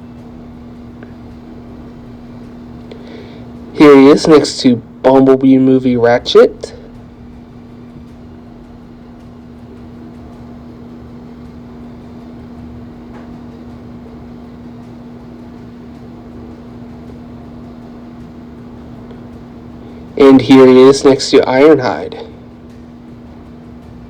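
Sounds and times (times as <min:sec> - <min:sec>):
even whirring noise: 0:00.0 - 0:24.0
low background hum: 0:00.0 - 0:24.0.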